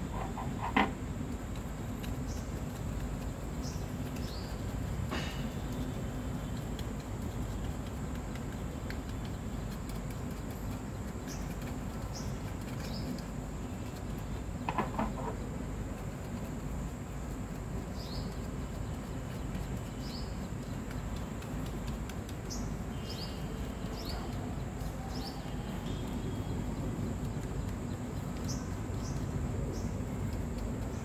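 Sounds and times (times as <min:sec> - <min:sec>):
birds chirping: 0:01.6 - 0:31.0.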